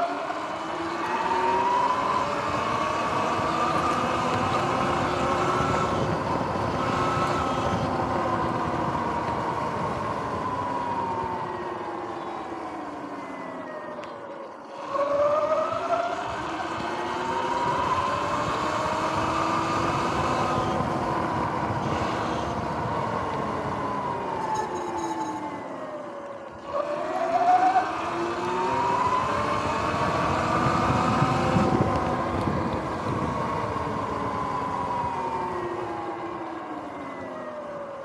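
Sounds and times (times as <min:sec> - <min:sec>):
electric motor whine: 0:00.0 - 0:25.6, 0:26.5 - 0:37.2.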